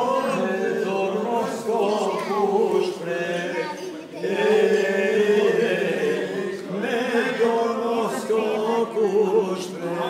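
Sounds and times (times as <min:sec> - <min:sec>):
men singing a chant: 0:00.0 - 0:10.0.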